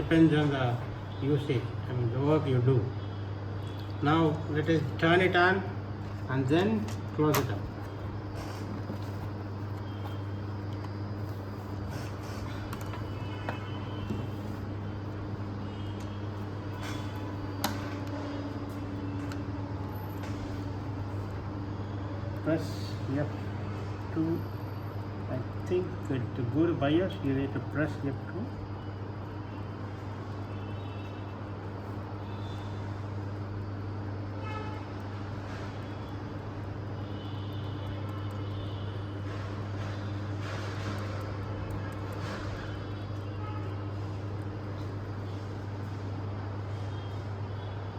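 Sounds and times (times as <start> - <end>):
low background hum: 0.0 - 47.9
traffic noise: 0.0 - 47.9.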